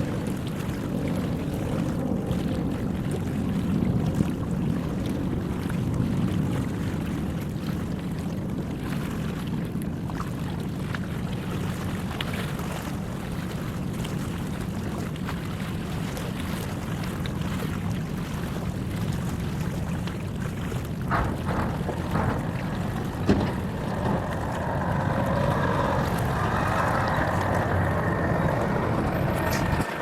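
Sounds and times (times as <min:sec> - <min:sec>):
boat engine rumbling: 0:00.0 - 0:30.0
wind on microphone: 0:00.0 - 0:30.0.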